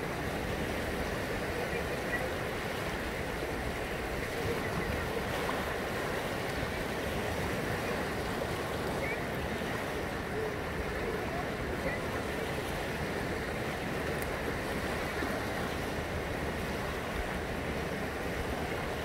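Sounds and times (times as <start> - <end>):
sea water lapping and splashing: 0.0 - 19.0.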